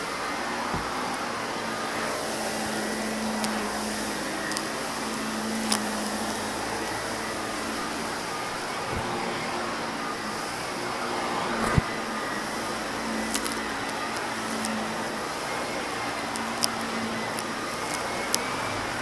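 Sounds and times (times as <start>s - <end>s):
vacuum cleaner motor hum: 0.0s - 19.0s.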